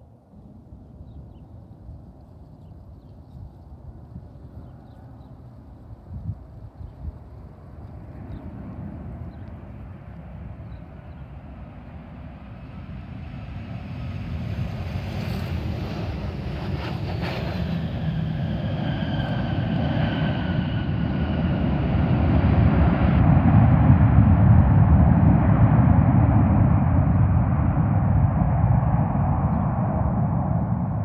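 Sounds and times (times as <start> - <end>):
jet engines rumbling: 3.8 - 31.0.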